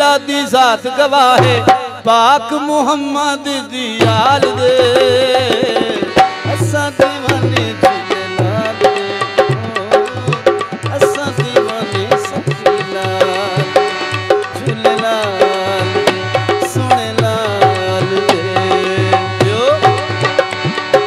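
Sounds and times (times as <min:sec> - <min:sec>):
harmonium melody: 0:00.0 - 0:21.0
hand drum rhythm: 0:01.4 - 0:01.9, 0:04.0 - 0:21.0.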